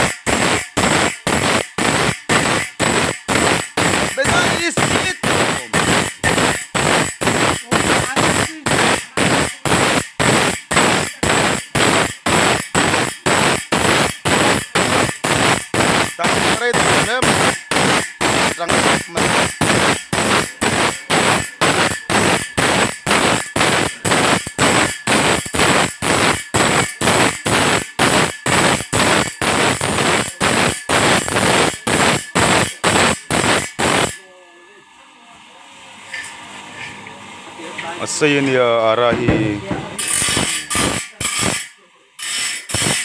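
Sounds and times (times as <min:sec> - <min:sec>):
grinding wheel on saw blade: 0:00.0 - 0:34.2, 0:38.0 - 0:43.0.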